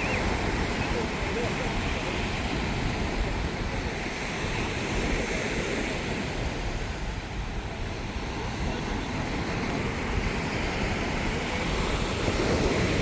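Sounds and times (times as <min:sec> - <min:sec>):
sea surf: 0:00.0 - 0:13.0
wind on microphone: 0:00.0 - 0:13.0.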